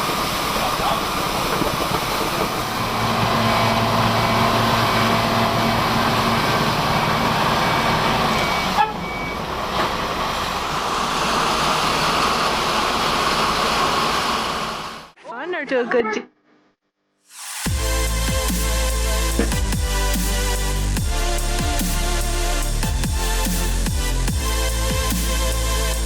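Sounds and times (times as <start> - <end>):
heavy vehicle engine running: 0.0 - 15.2, 17.7 - 26.0.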